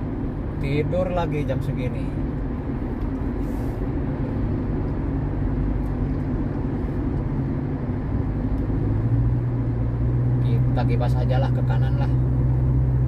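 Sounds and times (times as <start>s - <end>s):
car tyres and engine rumble: 0.0s - 13.0s.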